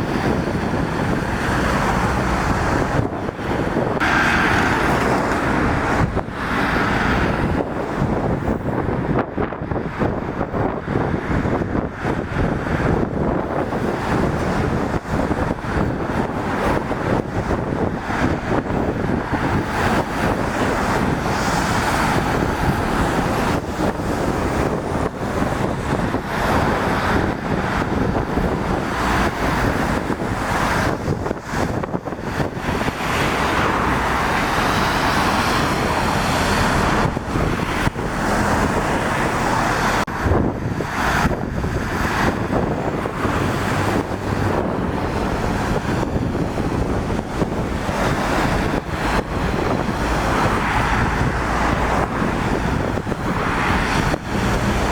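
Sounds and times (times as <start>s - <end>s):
steady traffic rumble: 0.0s - 54.9s
vehicles passing on wet road: 0.0s - 54.9s
wind buffeting microphone: 0.0s - 54.9s.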